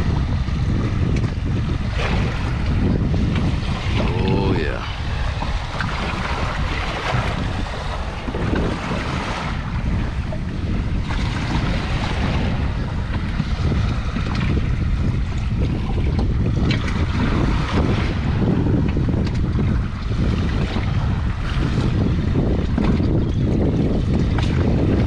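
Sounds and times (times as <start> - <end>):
moving water: 0.0 - 25.0
wind buffeting microphone: 0.0 - 25.0.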